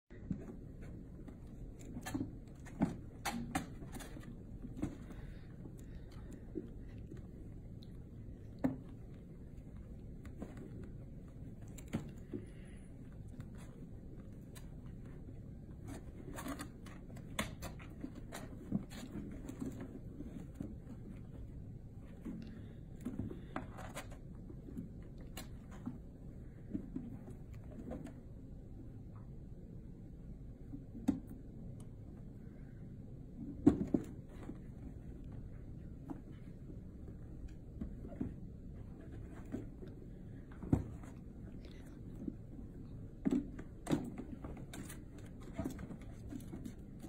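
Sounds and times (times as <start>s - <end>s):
kittens scuffling: 0.1s - 29.0s, 33.2s - 47.0s.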